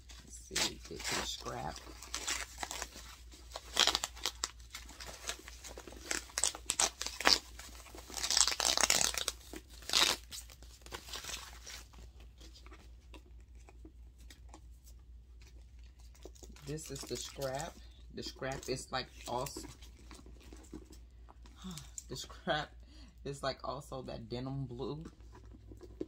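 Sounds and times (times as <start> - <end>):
paper wrapping rustling: 0.0 - 22.2.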